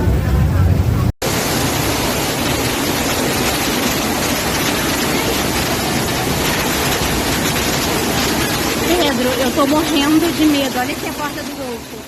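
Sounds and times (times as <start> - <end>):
heavy rain: 0.0 - 12.0
floodwater flowing: 1.2 - 12.0.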